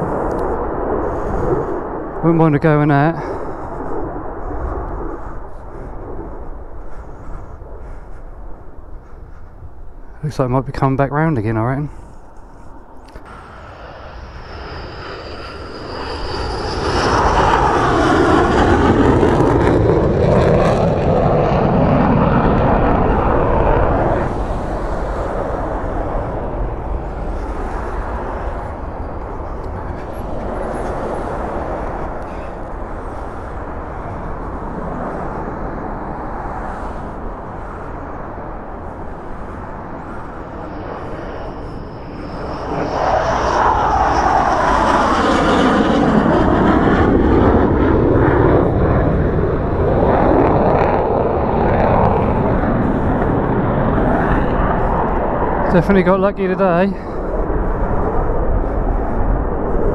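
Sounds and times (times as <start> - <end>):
fighter jet passing overhead: 0.0 - 59.9.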